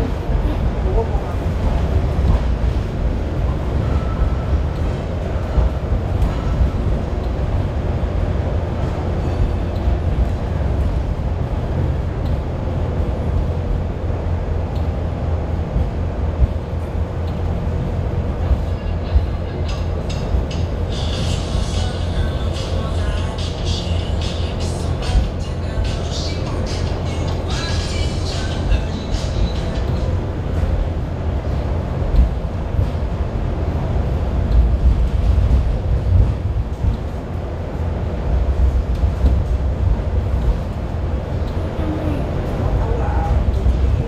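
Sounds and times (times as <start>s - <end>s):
rumble of train wheels: 0.0s - 44.0s.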